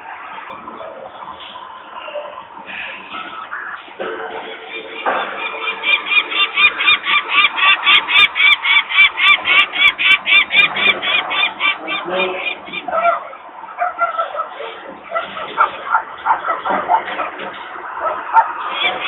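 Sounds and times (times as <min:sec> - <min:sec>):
falcon cacking calls: 0:02.7 - 0:19.0.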